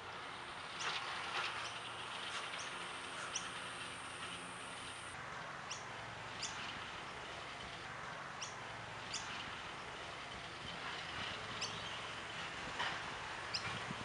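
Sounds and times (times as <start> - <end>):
birds chirping: 0.2 - 10.8, 11.4 - 12.4.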